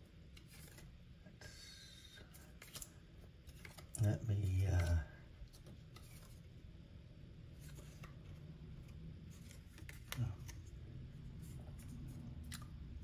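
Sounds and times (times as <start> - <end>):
card handling clicks and rustles: 0.2 - 1.0, 2.2 - 6.5, 7.5 - 13.0.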